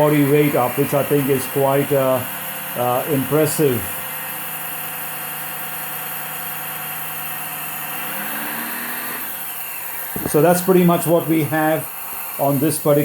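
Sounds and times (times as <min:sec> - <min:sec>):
engine-like drone: 0:00.0 - 0:13.0
hydraulic pump whir: 0:00.0 - 0:13.0.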